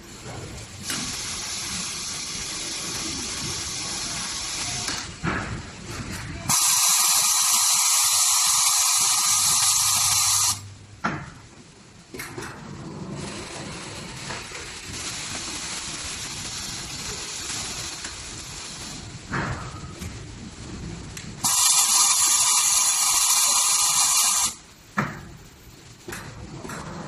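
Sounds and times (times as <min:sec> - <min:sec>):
welding press hissing: 0:00.0 - 0:11.6, 0:13.1 - 0:26.8.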